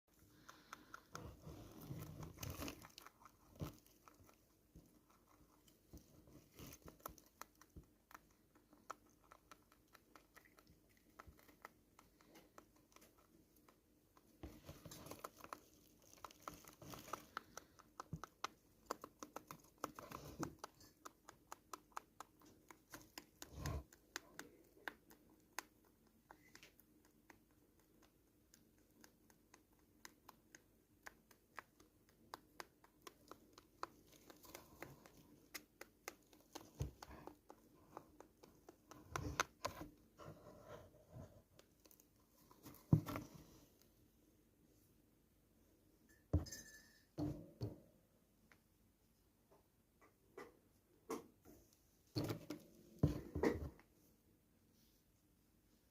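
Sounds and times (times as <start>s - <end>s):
rabbit chewing: 0.1s - 45.9s.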